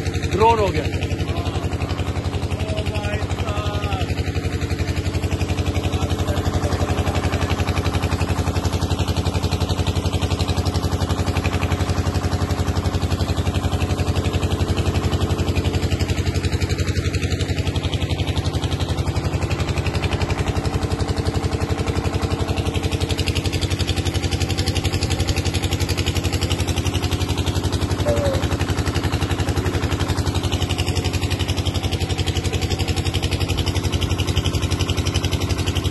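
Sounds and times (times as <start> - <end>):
motor running steadily: 0.0 - 35.9.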